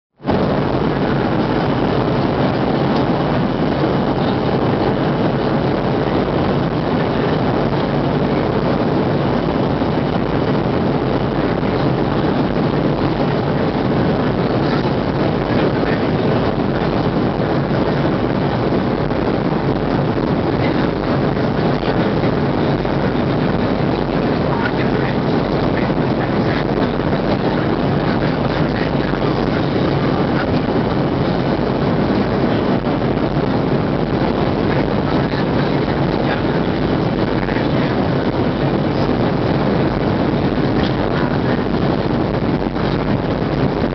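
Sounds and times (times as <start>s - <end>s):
jet engines humming: 0.1s - 43.9s
air rushing past airliner cabin: 0.2s - 43.9s.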